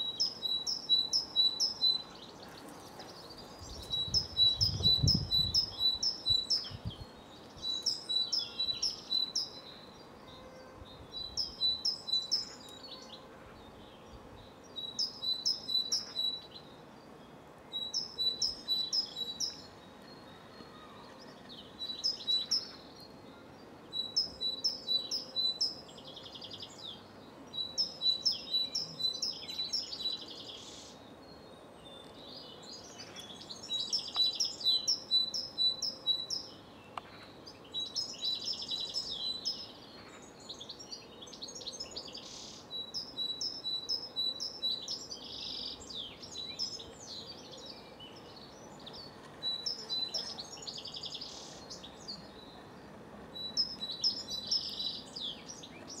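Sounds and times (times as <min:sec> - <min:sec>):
great tit singing: 0:00.0 - 0:16.8, 0:17.7 - 0:56.0.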